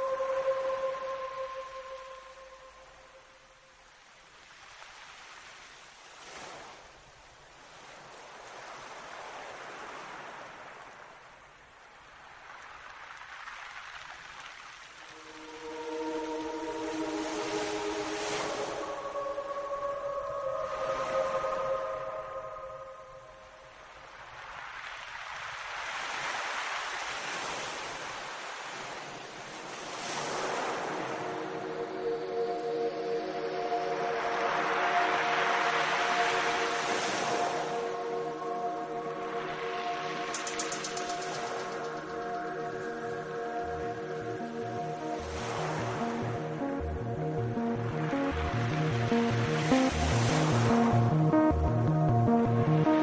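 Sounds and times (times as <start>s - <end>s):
sea waves washing in: 0.0s - 53.0s.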